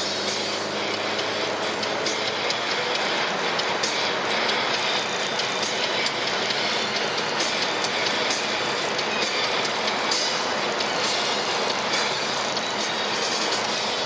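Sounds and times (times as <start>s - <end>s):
wind and road noise in car: 0.0s - 14.0s.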